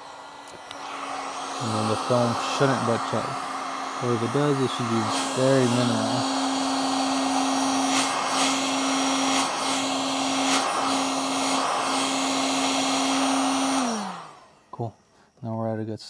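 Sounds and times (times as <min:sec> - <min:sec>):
motor winding down: 0:00.0 - 0:14.7
heat gun motor humming: 0:00.0 - 0:15.1.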